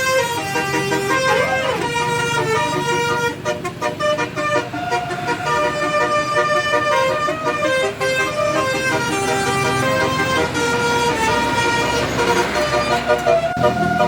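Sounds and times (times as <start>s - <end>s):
bus engine rumble: 0.0s - 14.0s
bus horn playing a melody: 0.0s - 14.0s.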